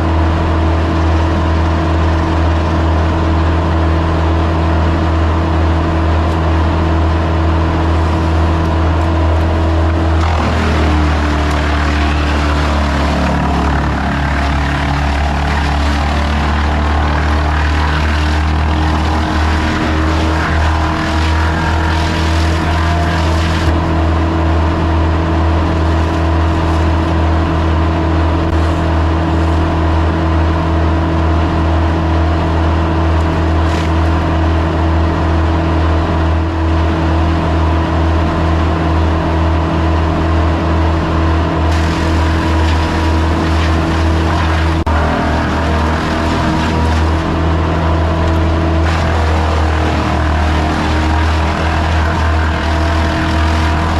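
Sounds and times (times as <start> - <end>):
large engine droning: 0.0 - 53.9.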